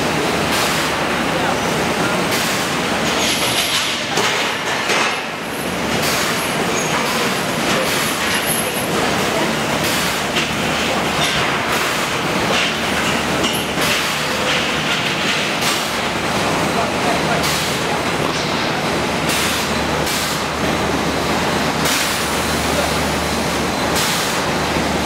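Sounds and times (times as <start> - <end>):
factory machinery clattering: 0.0 - 25.0
machinery clanks: 0.4 - 25.0.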